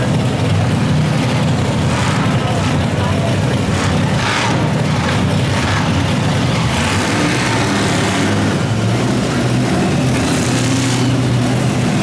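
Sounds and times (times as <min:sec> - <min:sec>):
monster truck engine running hard: 0:00.0 - 0:12.0.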